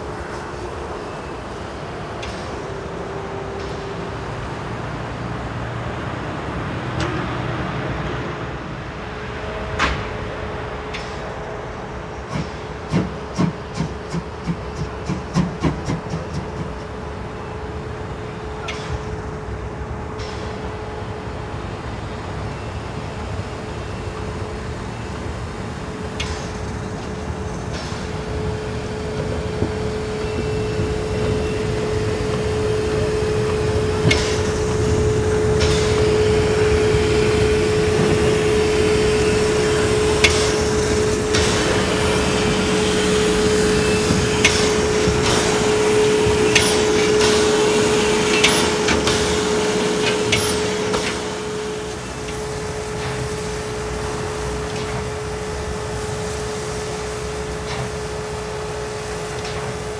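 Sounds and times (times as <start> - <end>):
locomotive steady humming tone: 0.0 - 59.9
steam locomotive exhaust chuffs: 0.0 - 59.9.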